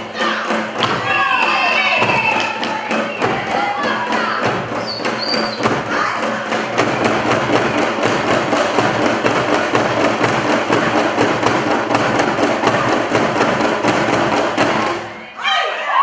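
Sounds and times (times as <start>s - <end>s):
dancers stamping on wooden stage: 0.0s - 15.2s
hand drums beating fast rhythm: 0.0s - 15.2s.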